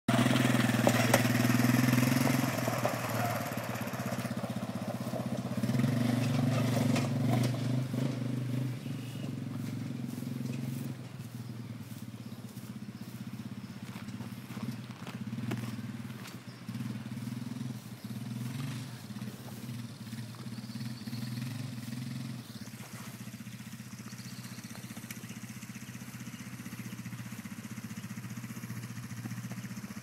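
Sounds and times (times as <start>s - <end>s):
atv engine running: 0.1s - 30.0s.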